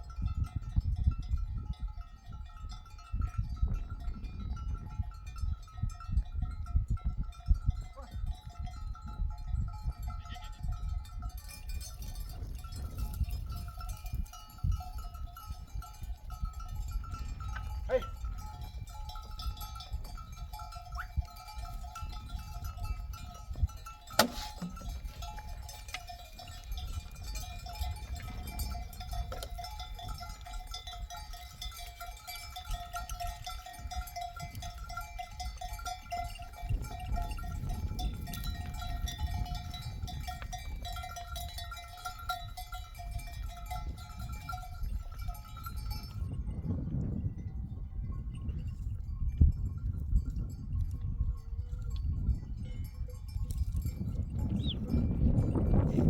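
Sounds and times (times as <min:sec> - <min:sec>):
sheep bells clinking: 0:00.0 - 0:56.0
wind rumble: 0:00.0 - 0:56.0.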